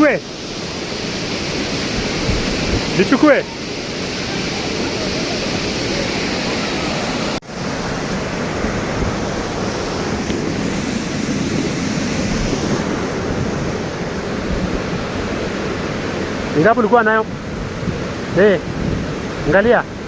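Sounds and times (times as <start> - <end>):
waterfall roaring: 0.0 - 20.0
wind on microphone: 0.2 - 16.6, 17.2 - 20.0.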